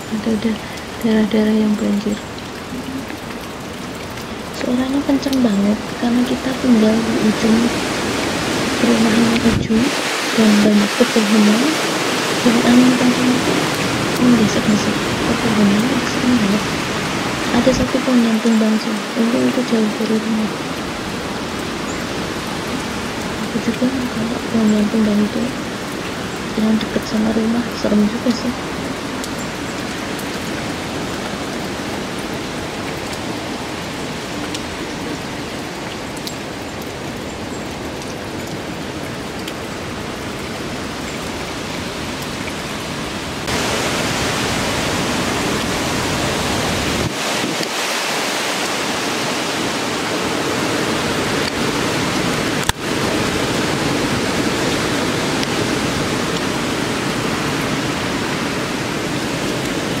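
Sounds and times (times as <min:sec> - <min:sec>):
heavy rain: 0:00.0 - 1:00.0
hurricane wind: 0:00.0 - 1:00.0.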